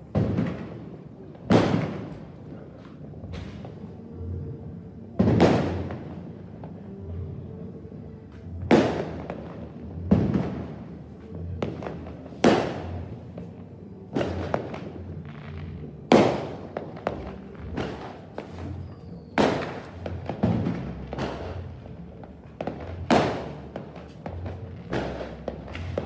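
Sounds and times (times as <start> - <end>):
fireworks bangs echoing: 0.0 - 3.8, 5.2 - 6.3, 8.7 - 26.0
fireworks crackling: 0.0 - 4.1, 5.2 - 6.9, 8.7 - 26.0.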